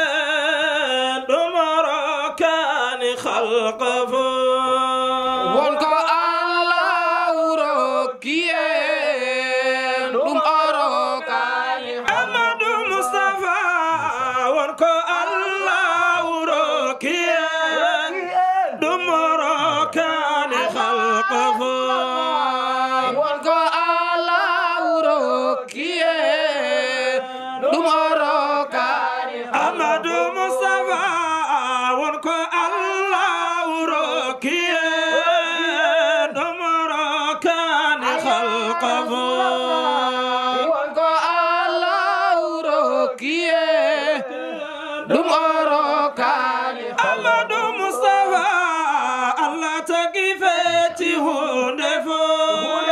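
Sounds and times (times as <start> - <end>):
man chanting into microphone: 0.0 - 52.9.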